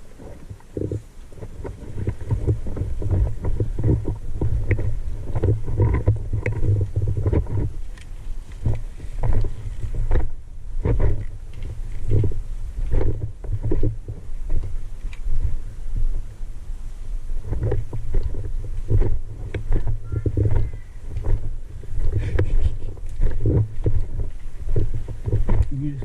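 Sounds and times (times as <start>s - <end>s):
rustling and knocking: 0.0s - 16.2s, 17.4s - 26.0s
microphone rumble: 0.0s - 26.0s.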